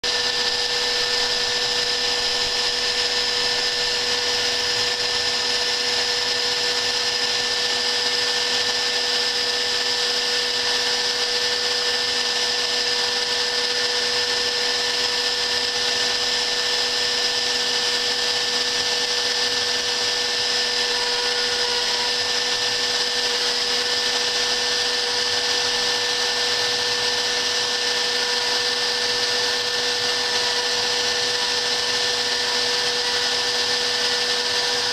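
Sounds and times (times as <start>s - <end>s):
router spindle motor whine: 0.0s - 34.9s.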